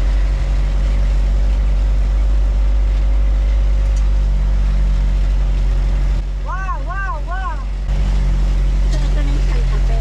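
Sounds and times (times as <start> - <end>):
truck engine and tyres rumbling: 0.0 - 10.0.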